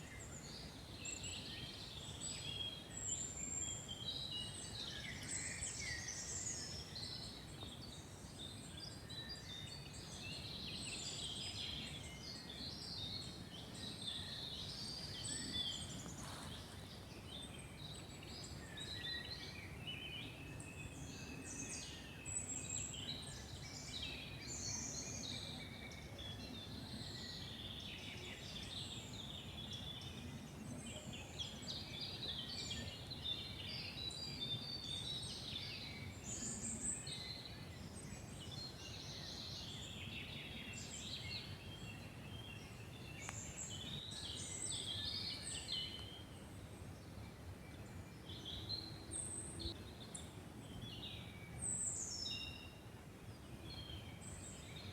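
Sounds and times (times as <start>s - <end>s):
faint steady hiss: 0.0s - 54.9s
songbirds singing and chirping: 0.0s - 54.9s.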